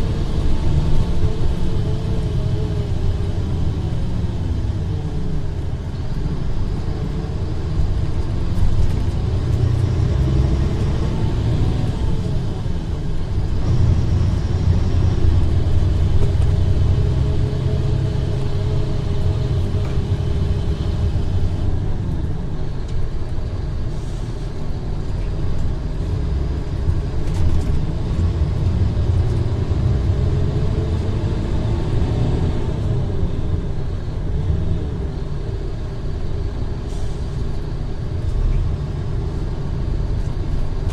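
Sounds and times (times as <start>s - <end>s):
bus diesel engine revving: 0.0s - 40.9s.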